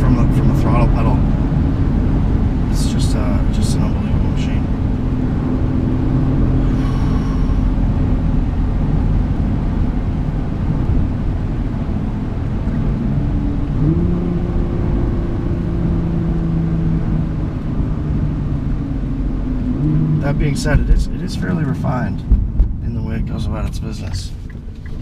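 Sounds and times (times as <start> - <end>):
car engine running: 0.0 - 25.0
low road rumble: 0.0 - 25.0.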